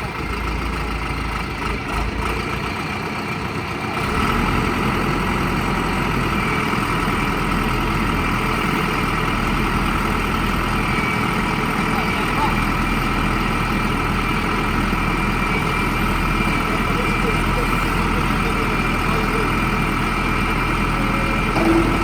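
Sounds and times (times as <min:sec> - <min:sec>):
construction machine engine running: 0:00.0 - 0:22.0.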